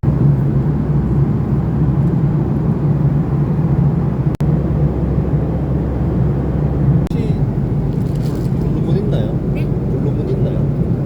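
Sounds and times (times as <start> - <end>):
airliner cabin drone: 0.0 - 11.0.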